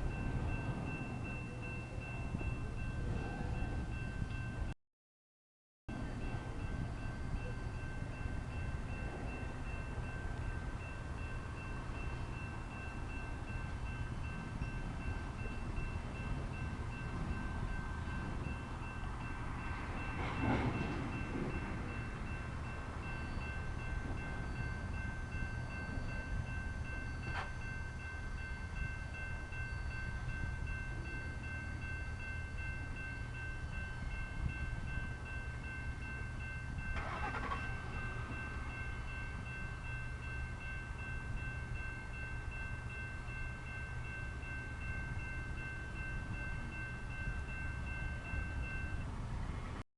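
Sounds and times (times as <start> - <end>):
freight train low rumble: 0.0 - 4.8, 5.9 - 49.8
electronic crossing bells ringing: 6.1 - 49.1.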